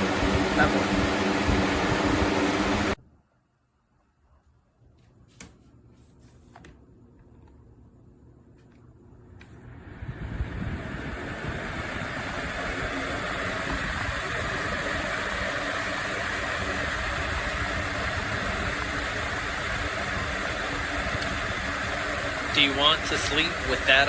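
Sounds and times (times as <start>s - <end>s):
box fan running: 0.0s - 3.0s, 5.2s - 24.0s.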